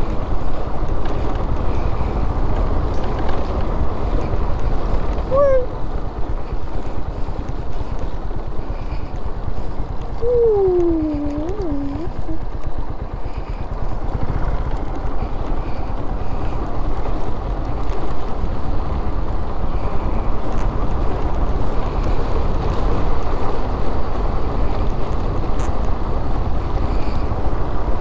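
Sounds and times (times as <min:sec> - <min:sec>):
motorcycle road noise: 0:00.0 - 0:28.0
wind rumble over microphone: 0:00.0 - 0:28.0.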